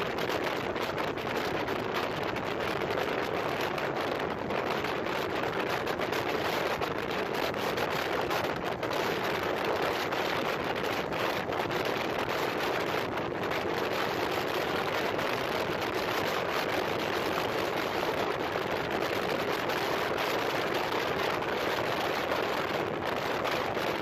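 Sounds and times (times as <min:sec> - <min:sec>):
motorcycle engine and road noise: 0:00.0 - 0:24.0
wind rushing over microphone: 0:00.0 - 0:24.0.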